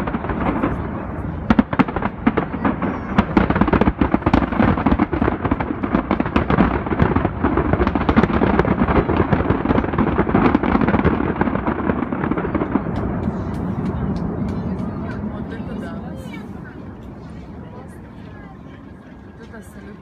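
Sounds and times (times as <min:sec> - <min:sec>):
fireworks bursting and crackling: 0:00.0 - 0:18.2.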